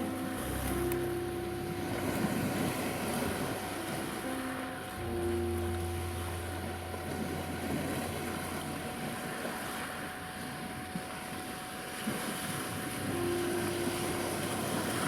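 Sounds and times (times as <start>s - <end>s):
sea waves washing on shore: 0.0s - 15.0s
soft low music notes: 0.0s - 15.0s
thin steady sine tone: 0.0s - 15.0s.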